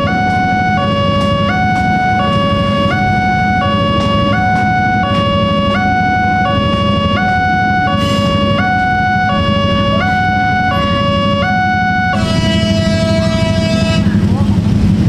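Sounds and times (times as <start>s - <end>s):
two-tone level-crossing alarm: 0.0s - 14.0s
electric train passing: 0.0s - 15.0s
low traffic rumble: 0.0s - 15.0s.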